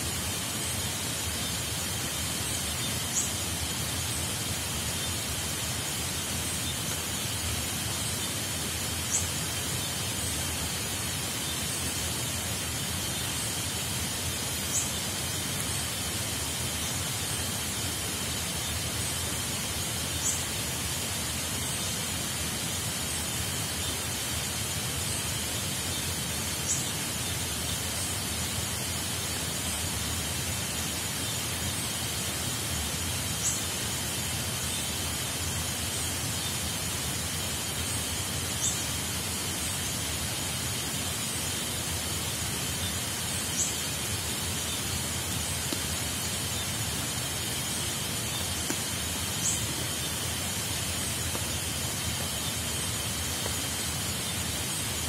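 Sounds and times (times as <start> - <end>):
falling water hissing: 0.0 - 55.0.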